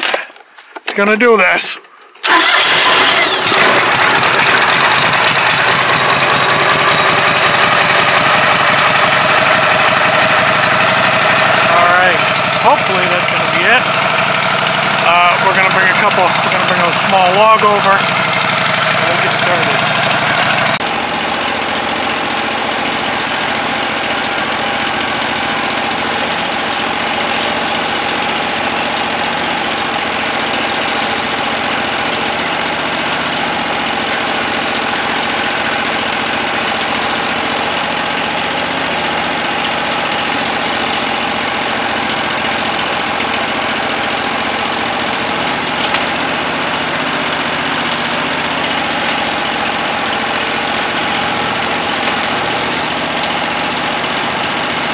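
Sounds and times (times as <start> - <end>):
sawmill gas engine running: 1.0 - 54.9.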